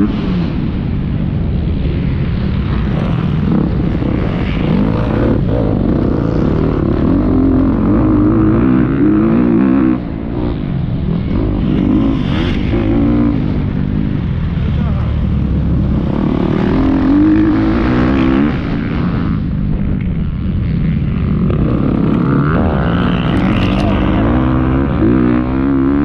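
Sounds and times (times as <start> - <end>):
motocross bike engine revving: 0.0 - 26.0
wind rushing over microphone: 0.0 - 26.0.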